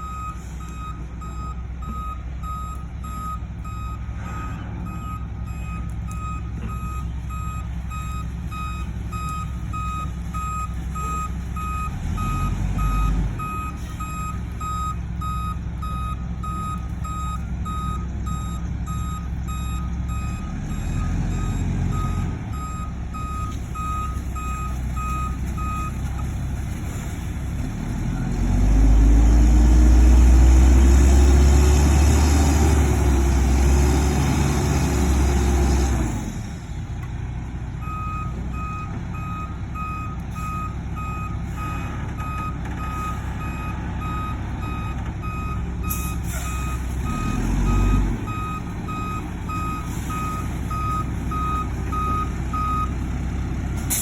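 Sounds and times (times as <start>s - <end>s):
truck backup alarm beeping: 0.0s - 36.8s, 37.7s - 54.0s
diesel engine running and revving: 0.0s - 54.0s.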